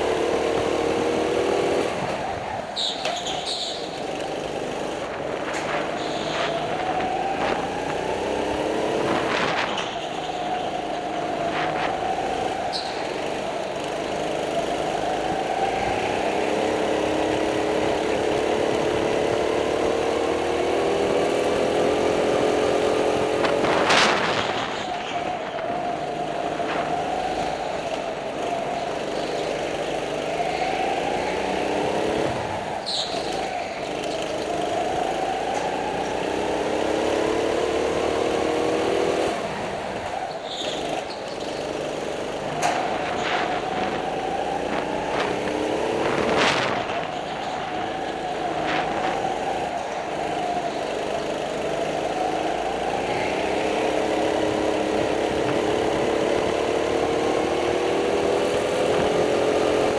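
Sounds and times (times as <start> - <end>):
go-kart engine accelerating: 0.0 - 59.9.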